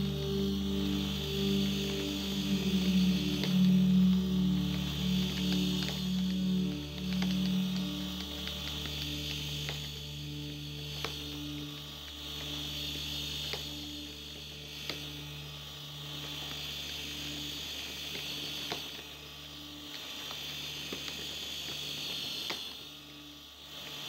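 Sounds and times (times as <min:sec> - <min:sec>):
electric motor hum and whine: 0:00.0 - 0:24.0.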